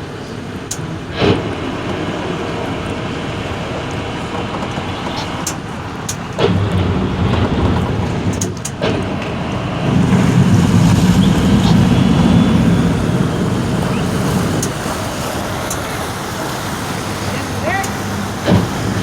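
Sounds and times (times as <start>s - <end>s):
motorboat engine running: 0.0s - 19.0s
rushing water noise: 0.0s - 19.0s.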